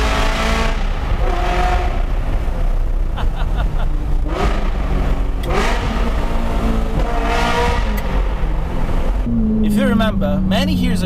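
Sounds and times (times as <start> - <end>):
car engine revving in tunnel: 0.0 - 11.0.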